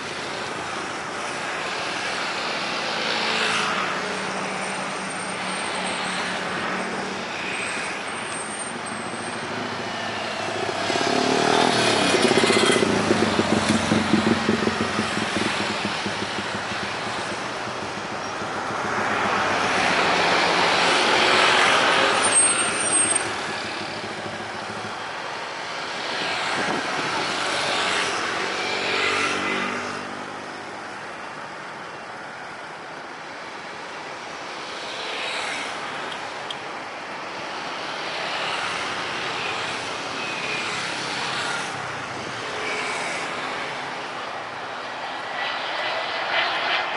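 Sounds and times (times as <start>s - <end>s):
vehicles passing: 0.0s - 46.9s.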